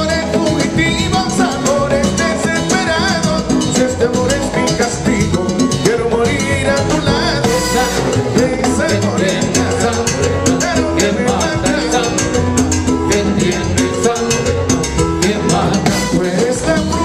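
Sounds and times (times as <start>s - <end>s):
bass line: 0.0s - 17.0s
percussion rhythm: 0.0s - 17.0s
salsa band playing: 0.0s - 17.0s.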